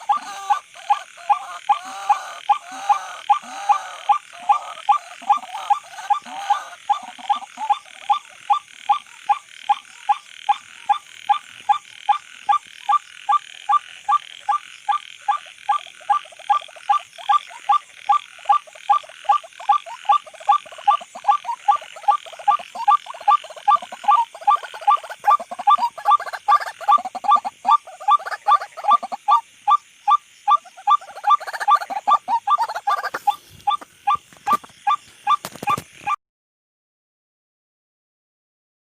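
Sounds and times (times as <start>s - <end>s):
bird harsh croaking calls: 0.0s - 36.2s.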